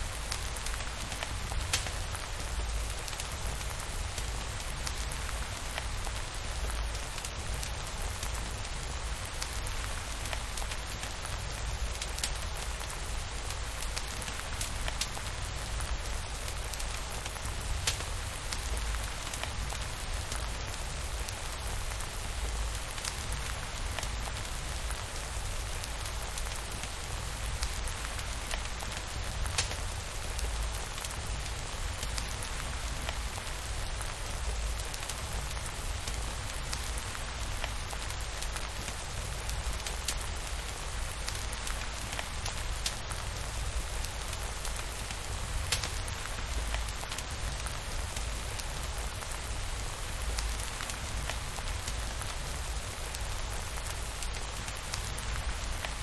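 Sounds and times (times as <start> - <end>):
steady rainfall: 0.0 - 56.0
wood fire crackles: 0.0 - 56.0.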